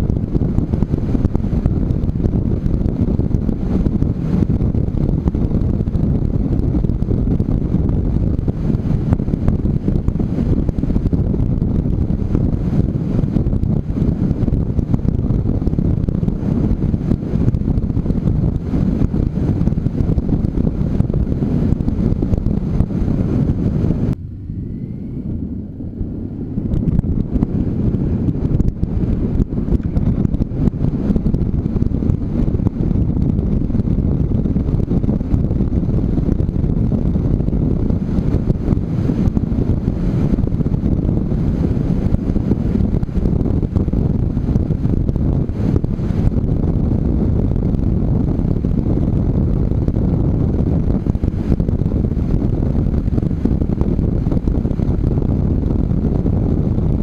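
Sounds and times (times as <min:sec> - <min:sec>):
motorcycle engine running: 0:00.0 - 0:57.0
wind rushing on microphone: 0:00.0 - 0:57.0.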